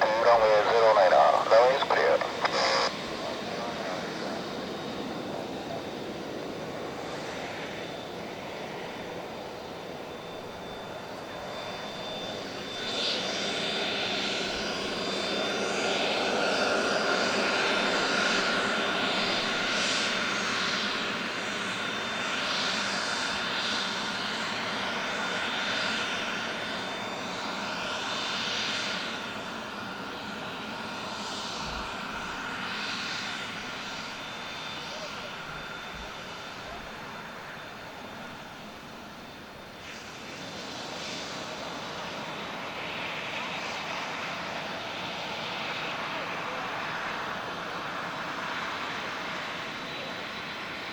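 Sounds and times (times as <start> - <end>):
jet engines whining: 0.0 - 50.9.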